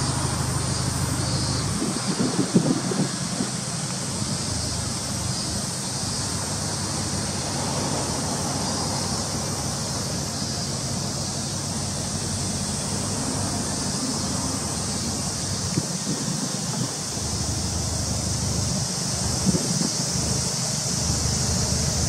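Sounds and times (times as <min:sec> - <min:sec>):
continuous hiss: 0:00.0 - 0:22.0.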